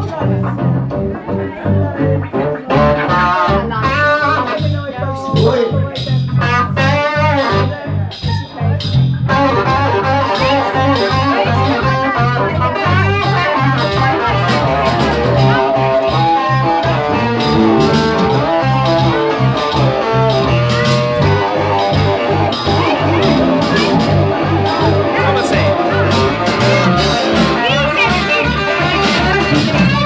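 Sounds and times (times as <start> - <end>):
bass guitar: 0.0 - 30.0
electric guitar lead lines: 0.0 - 30.0
rhythm guitar: 0.0 - 30.0.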